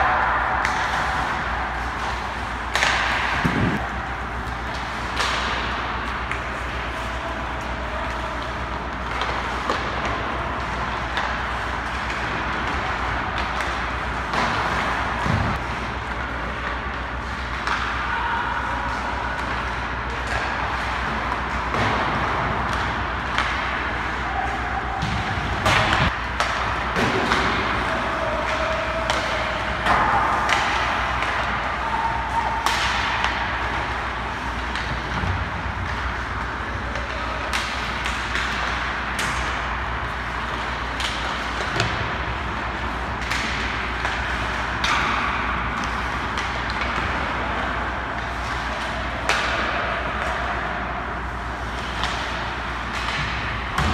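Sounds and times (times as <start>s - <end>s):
hockey sticks and pucks clacking: 0.0s - 53.9s.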